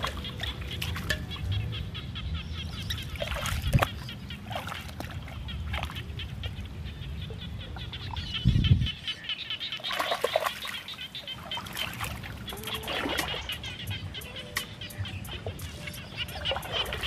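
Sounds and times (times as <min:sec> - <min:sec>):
water sloshing and splashing: 0:00.0 - 0:08.5, 0:09.2 - 0:14.0, 0:14.6 - 0:17.0
small birds chirping: 0:00.0 - 0:17.0.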